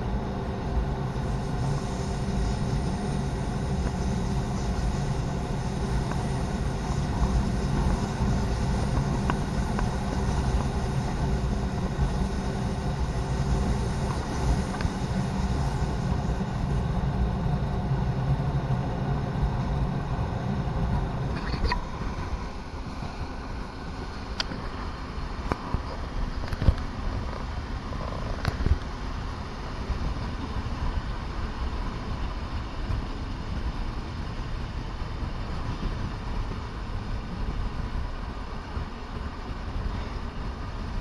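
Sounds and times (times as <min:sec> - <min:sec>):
railcar engine drone: 0:00.0 - 0:41.0
wheels rumbling on rails: 0:00.0 - 0:41.0.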